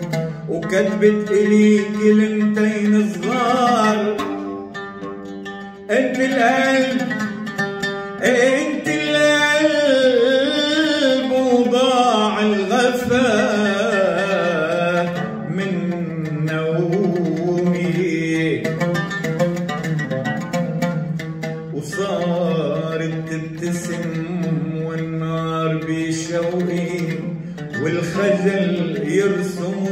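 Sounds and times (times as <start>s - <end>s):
man singing: 0.0s - 4.6s, 5.9s - 7.5s, 8.2s - 19.3s, 21.7s - 29.9s
plucked oud: 0.0s - 29.9s.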